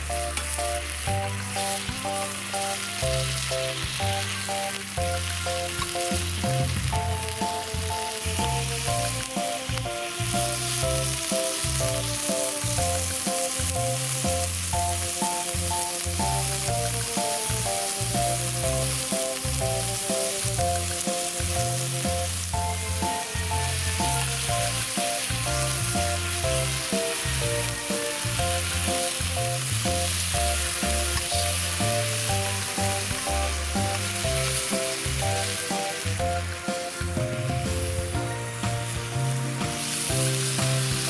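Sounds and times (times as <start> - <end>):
background music: 0.0 - 41.0
food frying sizzle: 0.0 - 41.0.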